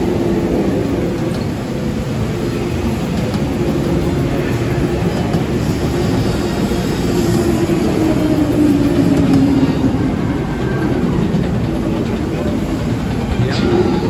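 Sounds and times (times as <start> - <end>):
amusement ride rumbling and rattling: 0.0 - 14.0
droning tone: 0.0 - 14.0.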